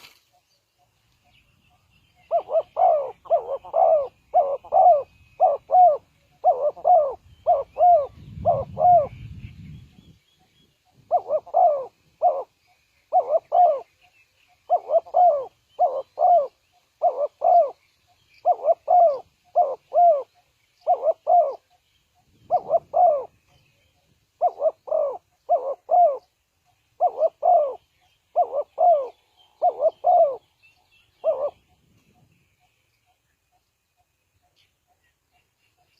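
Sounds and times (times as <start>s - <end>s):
dove cooing: 1.7s - 9.7s, 10.9s - 17.8s, 18.4s - 32.4s.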